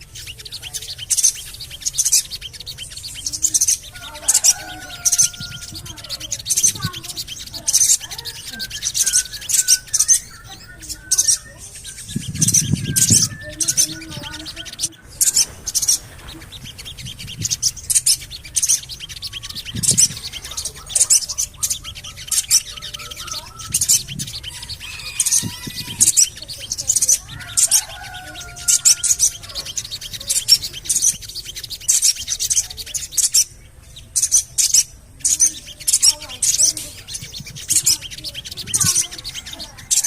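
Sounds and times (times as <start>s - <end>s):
bird high chirps: 0.0s - 40.0s
bird warbling notes: 0.0s - 40.0s.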